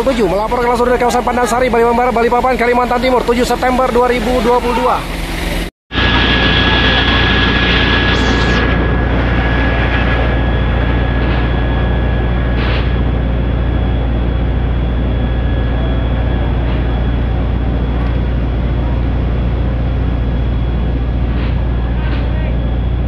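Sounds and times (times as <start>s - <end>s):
faint high whine: 0.0s - 23.0s
fire truck engine and pump drone: 0.0s - 23.0s.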